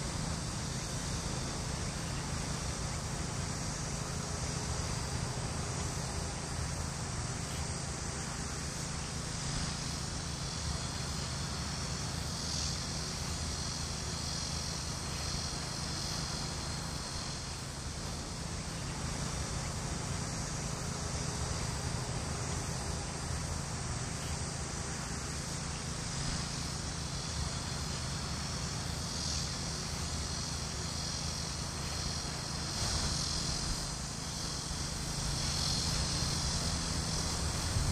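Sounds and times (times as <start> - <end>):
insects chirring: 0.0 - 37.9.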